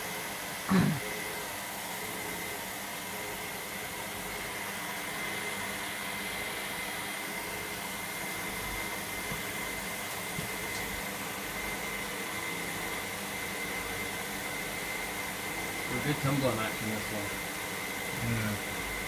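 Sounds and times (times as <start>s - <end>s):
thin steady whine: 0.0s - 19.0s.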